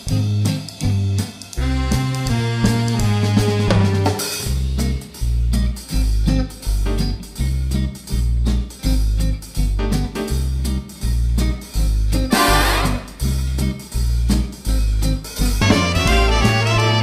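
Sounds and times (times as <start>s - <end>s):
pulsing bass music: 0.0s - 17.0s.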